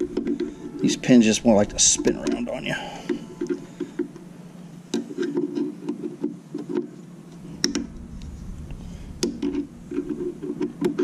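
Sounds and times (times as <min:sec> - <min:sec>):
metal rubbing: 0:00.0 - 0:06.1, 0:07.0 - 0:11.0.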